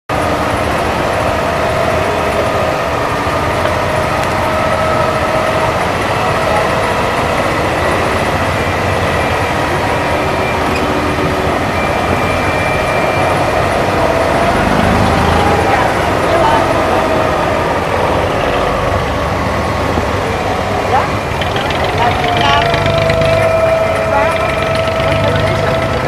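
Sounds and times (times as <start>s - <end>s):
boat diesel engine rumbling: 0.1s - 26.0s.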